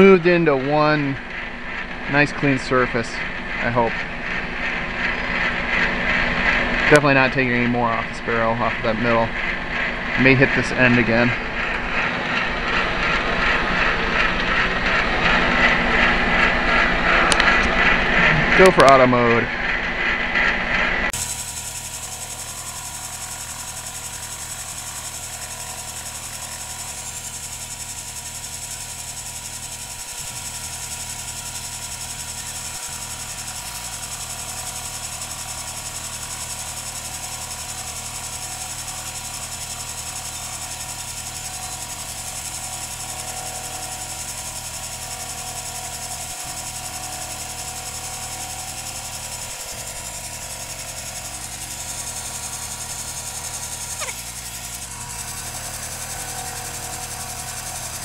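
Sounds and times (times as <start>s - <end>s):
metal lathe whirring hum: 0.0s - 58.0s.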